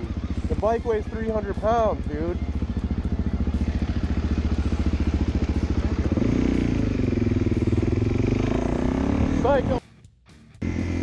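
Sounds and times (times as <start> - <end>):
motorcycle engine revving: 0.0 - 9.8, 10.6 - 11.0.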